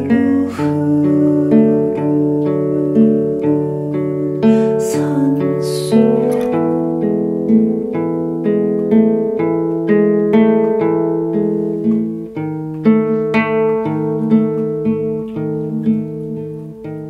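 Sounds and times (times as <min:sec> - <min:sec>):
fingerstyle classical guitar: 0:00.0 - 0:17.0.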